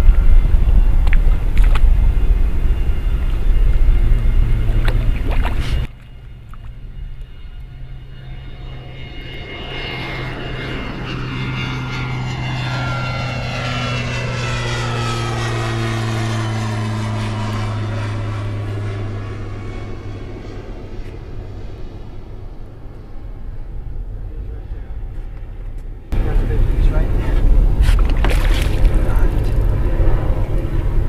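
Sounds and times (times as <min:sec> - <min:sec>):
propeller airplane droning: 0:00.0 - 0:31.0.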